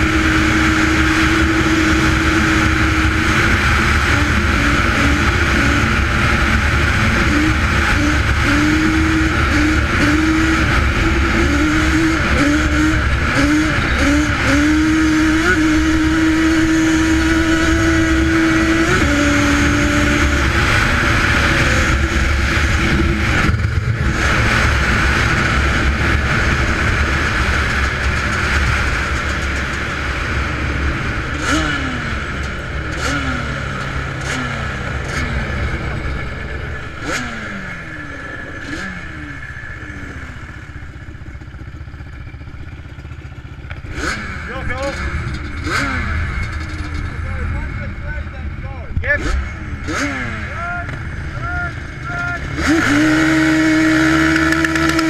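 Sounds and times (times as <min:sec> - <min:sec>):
engine at full throttle: 0:00.0 - 0:55.0.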